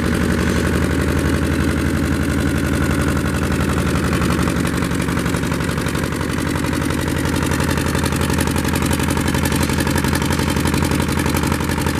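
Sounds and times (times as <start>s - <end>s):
diesel generator running: 0.0s - 11.9s.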